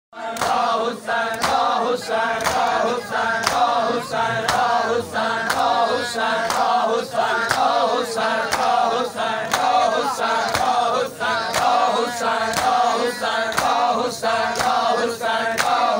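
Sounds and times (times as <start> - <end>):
men chanting in unison: 0.2 - 15.9
rhythmic chest beating: 0.2 - 15.9.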